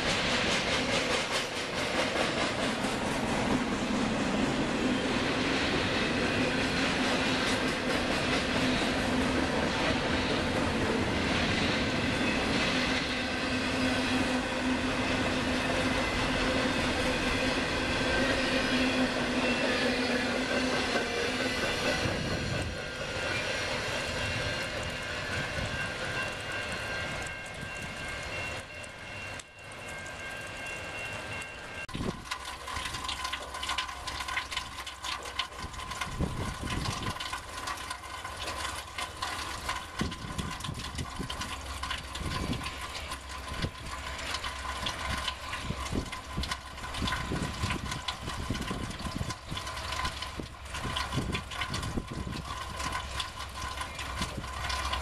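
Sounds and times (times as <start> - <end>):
freight train rolling on rails: 0.0 - 55.0.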